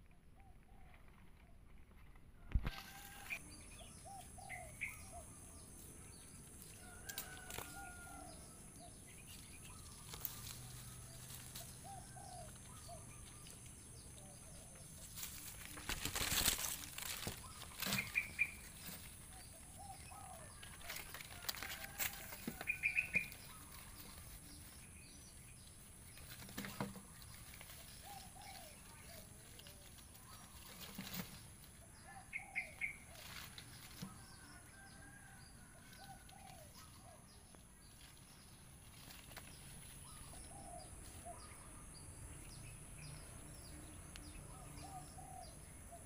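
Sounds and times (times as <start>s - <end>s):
leaves rustling: 0.6s - 42.4s.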